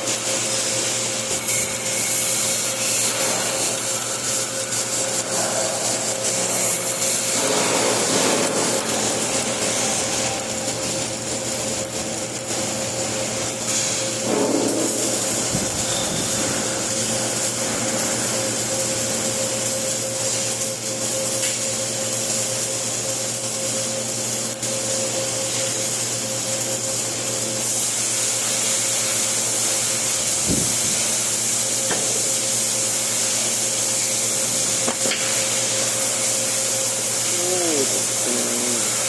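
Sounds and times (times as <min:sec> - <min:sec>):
welding arc hissing: 0:00.0 - 0:39.0.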